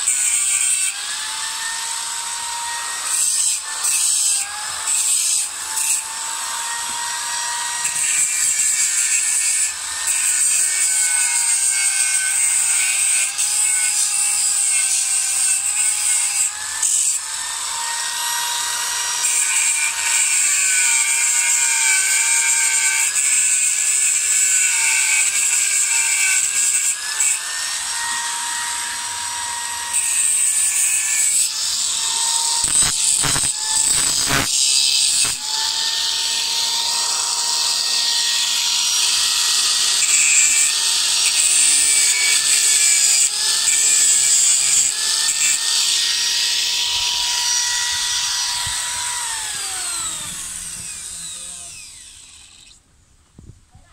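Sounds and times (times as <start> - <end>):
angle grinder cutting metal: 0.0 - 52.8.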